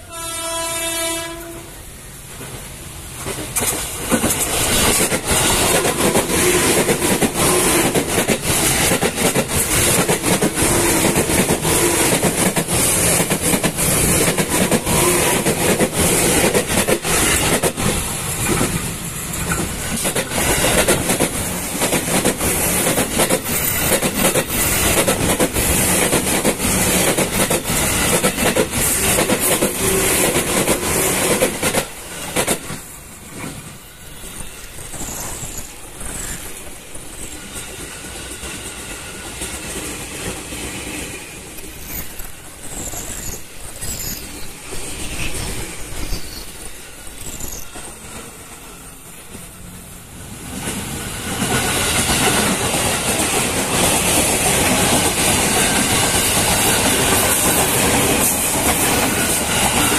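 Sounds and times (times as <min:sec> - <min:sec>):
electric train passing: 0:00.0 - 0:59.9.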